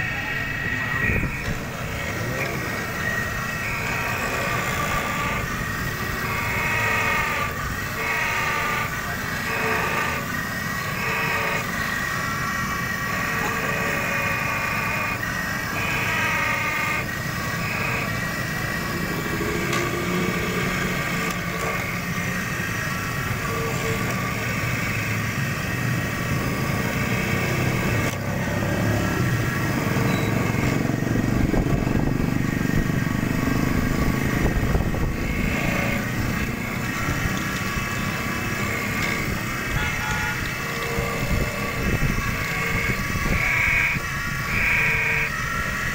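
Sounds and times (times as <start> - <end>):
key-cutting machine whine: 0.0 - 45.9.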